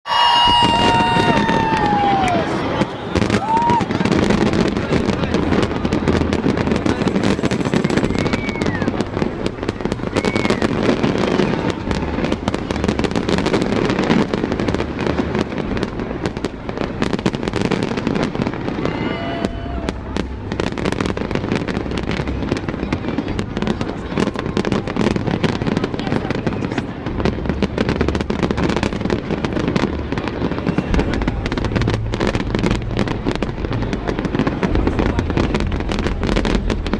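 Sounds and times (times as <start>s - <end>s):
crowd chatter: 0.0s - 36.9s
fireworks crackling and popping: 0.1s - 36.9s
fireworks whistles: 0.1s - 36.9s.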